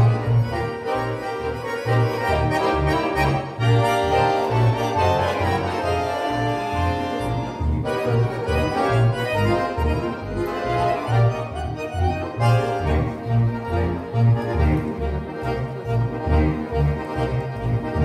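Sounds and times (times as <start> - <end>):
accordions playing driving rhythm: 0.0 - 18.0.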